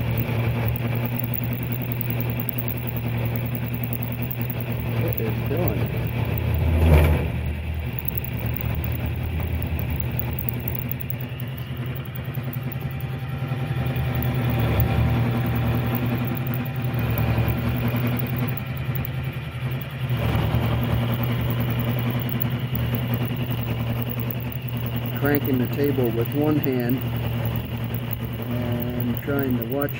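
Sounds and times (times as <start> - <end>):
milling machine cutting steel: 0.0 - 29.9.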